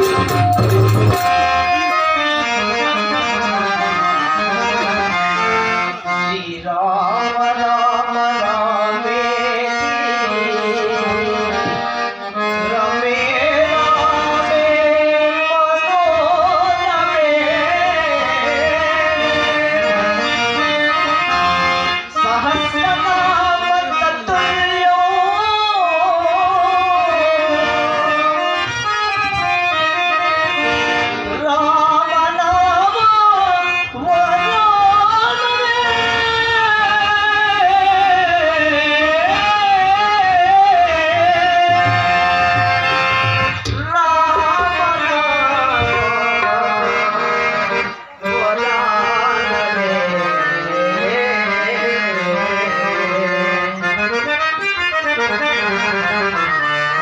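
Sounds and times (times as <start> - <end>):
harmonium melody: 0.0 - 57.0
man singing: 0.0 - 57.0
tabla: 0.0 - 57.0.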